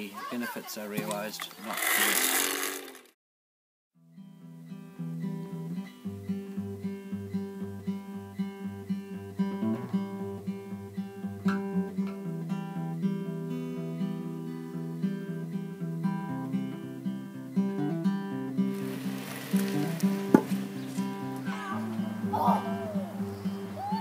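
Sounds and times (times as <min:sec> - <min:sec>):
strummed acoustic guitar: 0:04.0 - 0:24.0.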